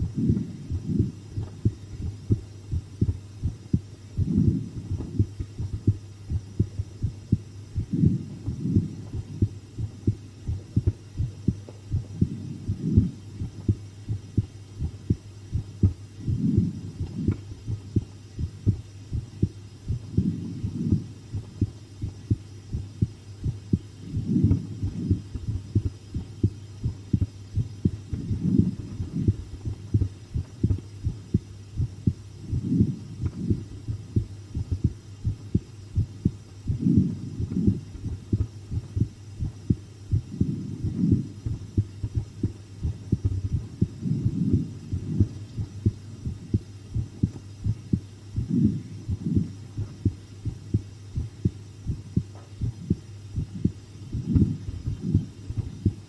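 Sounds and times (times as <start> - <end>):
faint steady hum: 0.0 - 56.0
heartbeat thuds: 0.0 - 56.0.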